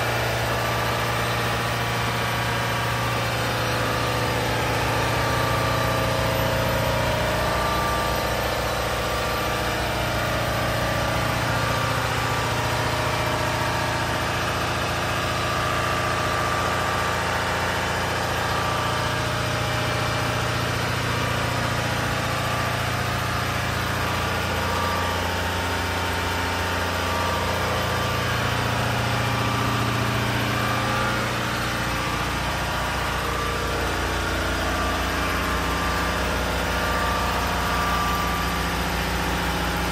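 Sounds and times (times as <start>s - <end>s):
compressor engine humming: 0.0s - 39.9s.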